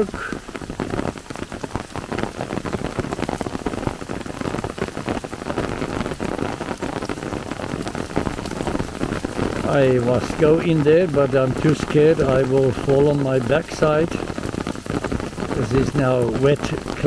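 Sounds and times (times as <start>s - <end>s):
rain on an umbrella: 0.0s - 17.0s.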